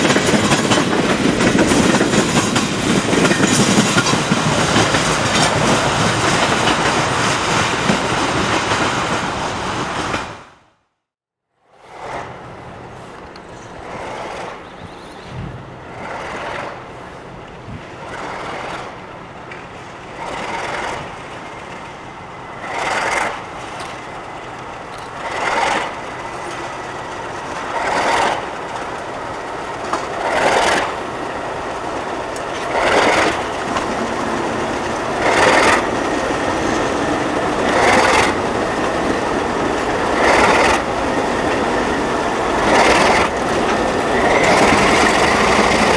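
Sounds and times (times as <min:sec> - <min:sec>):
diesel train approaching: 0:00.0 - 0:10.9, 0:11.6 - 0:45.9.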